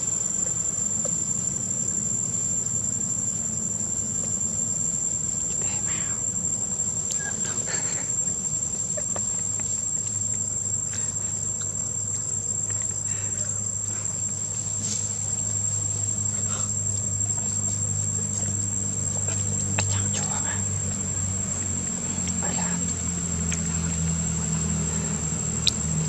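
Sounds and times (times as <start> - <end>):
insects chirring: 0.0 - 26.0
low steady hum: 0.0 - 26.0.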